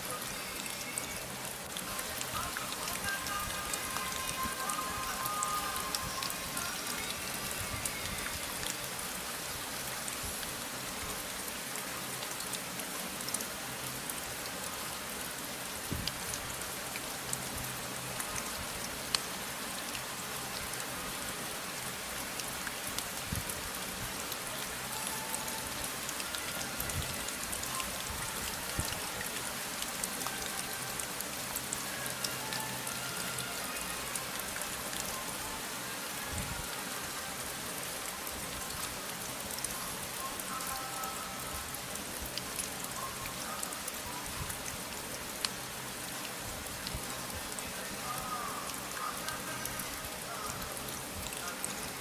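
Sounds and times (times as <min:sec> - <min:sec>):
raindrops ticking on a surface: 0:00.0 - 0:52.0
steady rain hiss: 0:00.0 - 0:52.0.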